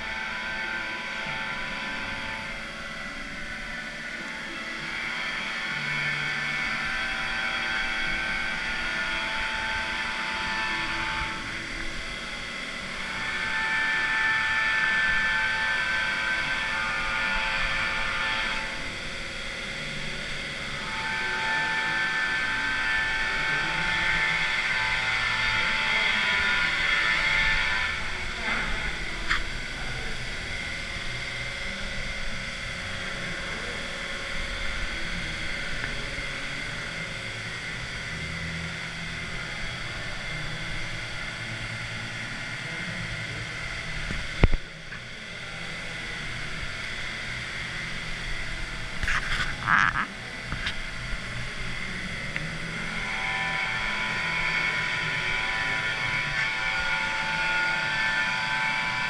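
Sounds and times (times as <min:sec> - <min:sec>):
machinery hum and hiss: 0:00.0 - 0:59.0.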